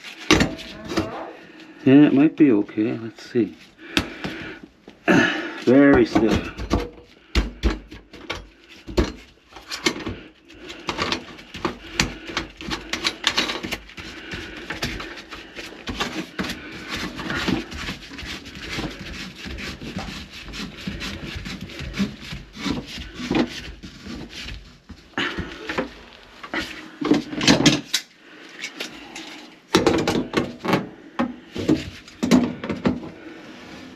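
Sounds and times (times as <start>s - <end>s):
rubbing and scraping of drain fittings: 0.0s - 4.7s, 5.5s - 33.9s.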